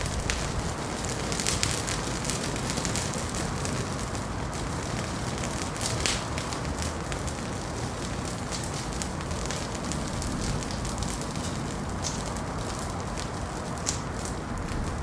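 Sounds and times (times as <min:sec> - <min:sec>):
low rush of fire: 0:00.0 - 0:15.0
wood fire crackling and popping: 0:00.0 - 0:15.0.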